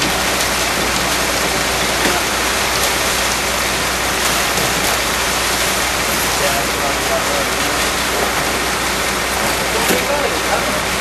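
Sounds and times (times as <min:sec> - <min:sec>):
wet concrete pouring into wheelbarrow: 0:00.0 - 0:11.0.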